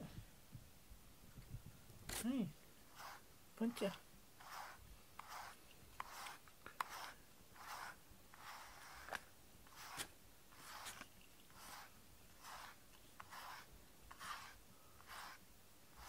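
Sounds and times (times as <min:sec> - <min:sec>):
brush strokes through fur: 0:02.1 - 0:16.0.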